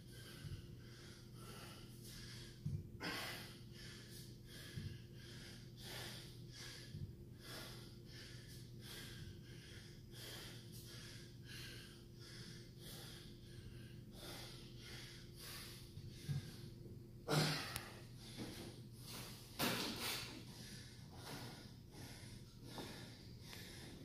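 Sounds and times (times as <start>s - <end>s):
man breathing hard: 0.0s - 24.0s.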